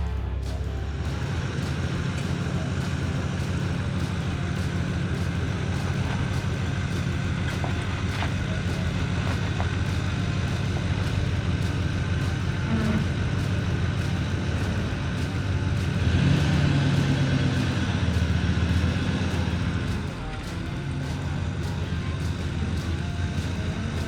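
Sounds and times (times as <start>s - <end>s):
vehicle engine running low: 0.0s - 24.0s.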